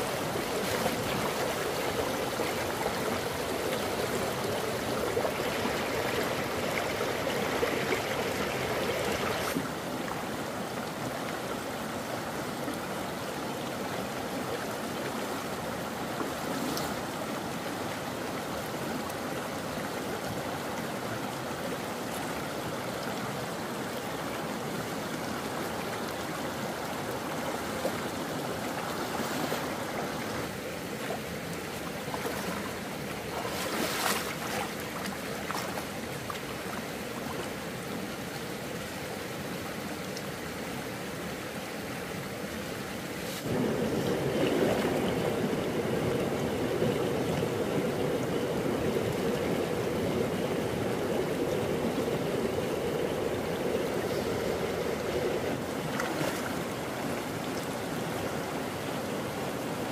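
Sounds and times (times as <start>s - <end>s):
floodwater rushing in a stream: 0.0s - 59.9s.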